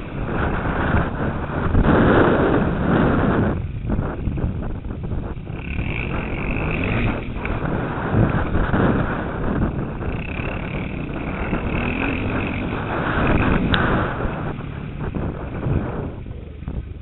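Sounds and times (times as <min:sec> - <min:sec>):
motocross bike engine running: 0:00.0 - 0:17.0
wind rushing over microphone: 0:00.0 - 0:17.0.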